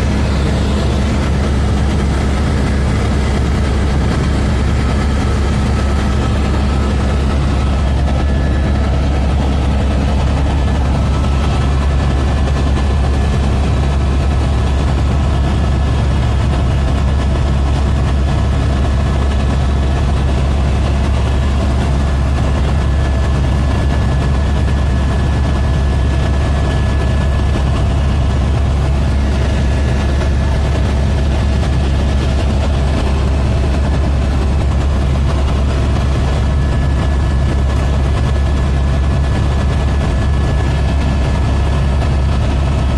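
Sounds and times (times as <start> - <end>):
helicopter engine and rotor: 0.0 - 42.9.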